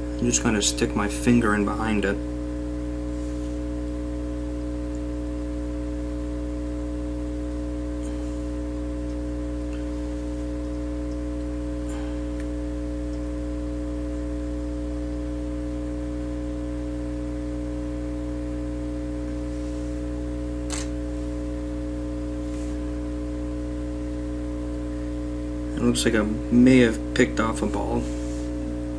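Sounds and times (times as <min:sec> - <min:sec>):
electrical hum with fixed tones: 0:00.0 - 0:28.9.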